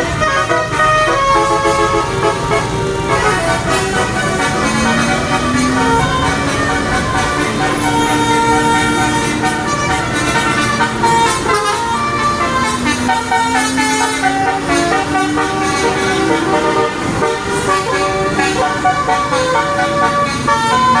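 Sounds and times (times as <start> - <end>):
multi-tone bus air horns: 0.0 - 21.0.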